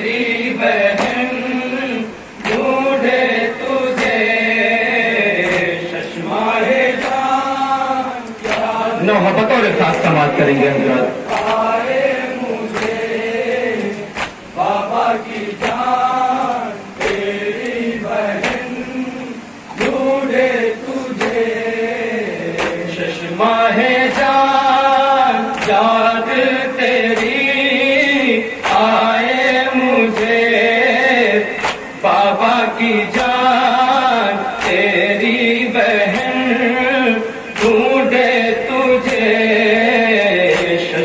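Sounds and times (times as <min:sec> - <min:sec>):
men chanting in unison: 0:00.0 - 0:41.0.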